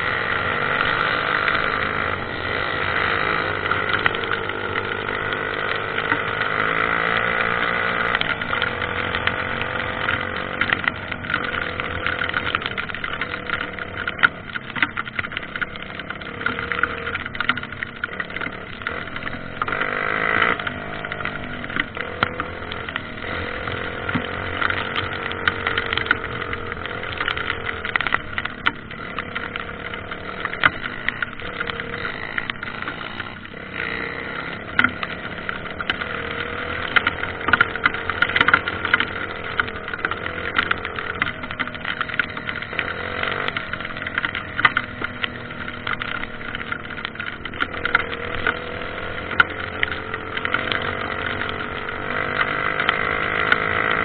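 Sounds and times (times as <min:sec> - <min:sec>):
dirt bike engine revving: 0:00.0 - 0:14.1, 0:15.8 - 0:17.3, 0:17.9 - 0:54.0
sharp clicks and knocks: 0:00.0 - 0:54.0.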